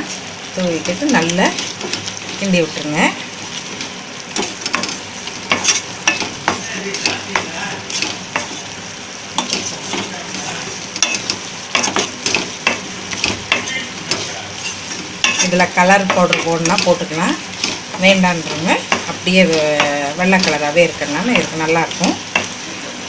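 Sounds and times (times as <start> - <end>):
steady sizzle: 0.0 - 23.0
spatula scraping a pan: 0.7 - 22.6.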